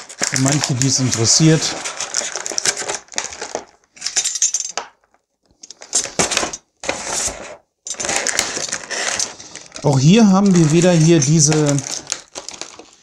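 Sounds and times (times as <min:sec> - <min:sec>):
plastic packaging crinkling: 0:00.0 - 0:04.0, 0:05.0 - 0:13.0.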